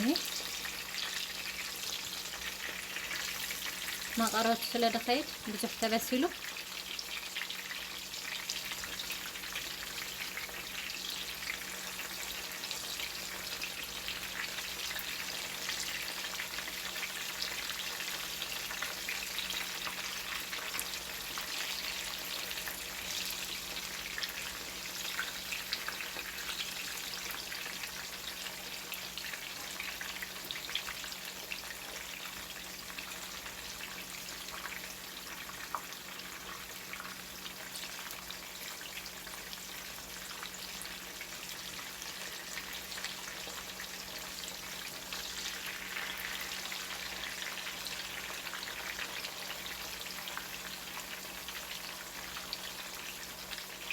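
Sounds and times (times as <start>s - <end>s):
vegetables frying in hot oil: 0.0s - 53.9s.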